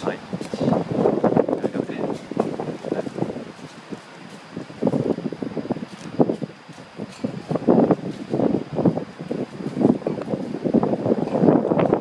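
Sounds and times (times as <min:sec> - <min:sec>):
strong wind gusts buffeting microphone: 0:00.0 - 0:12.0.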